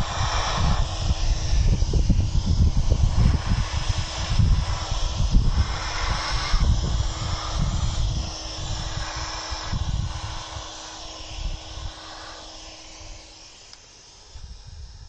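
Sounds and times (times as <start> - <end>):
wind buffeting microphone: 0.0 - 12.1
steady hiss: 0.0 - 15.0
thin constant hum: 0.0 - 15.0.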